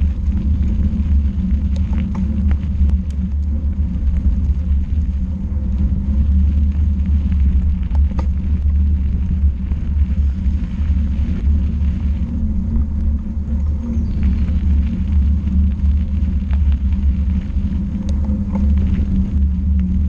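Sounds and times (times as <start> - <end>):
stones clicking under wheels: 0.0 - 20.0
vehicle rumbling on gravel track: 0.0 - 20.0.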